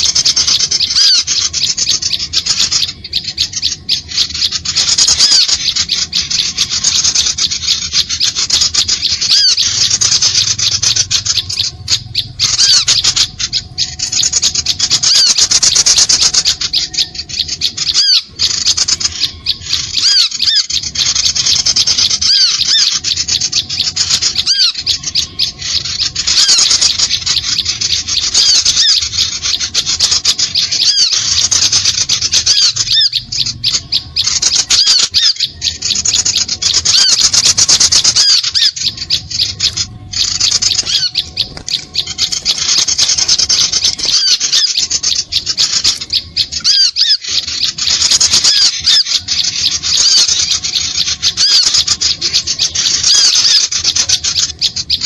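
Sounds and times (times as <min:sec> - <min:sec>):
small birds chattering: 0:00.0 - 0:55.0.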